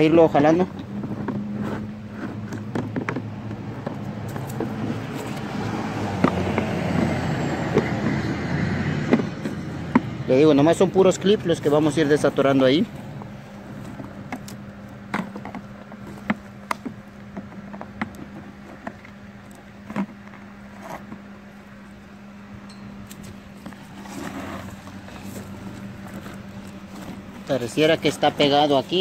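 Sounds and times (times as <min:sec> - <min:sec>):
steady low hum: 0:00.0 - 0:29.0
plastic rustling and scraping: 0:00.8 - 0:08.2, 0:10.8 - 0:21.3, 0:23.1 - 0:29.0.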